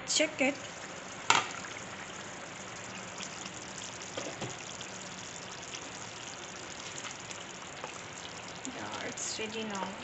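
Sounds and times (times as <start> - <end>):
curry bubbling in a frying pan: 0.1 - 10.0.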